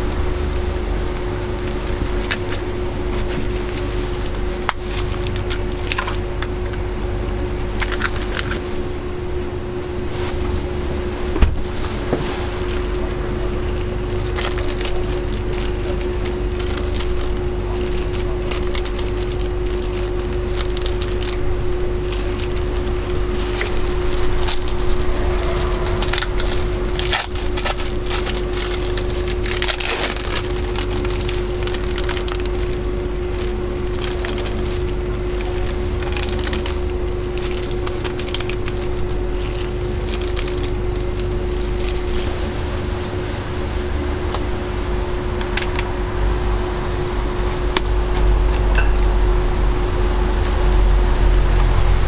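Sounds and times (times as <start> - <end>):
equipment hum: 0.0 - 52.0
low rumble: 0.0 - 52.0.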